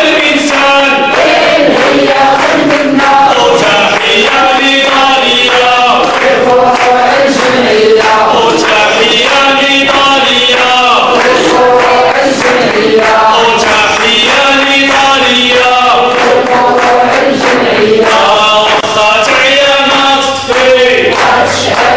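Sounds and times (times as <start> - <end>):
man chanting through loudspeaker: 0.0 - 21.8.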